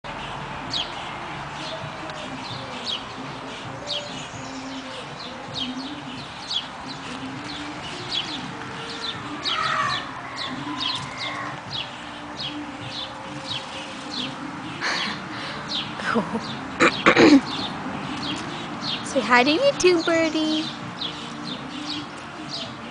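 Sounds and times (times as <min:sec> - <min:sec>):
birds chirping: 0:00.0 - 0:22.9
low wavering bird calls: 0:00.1 - 0:22.9.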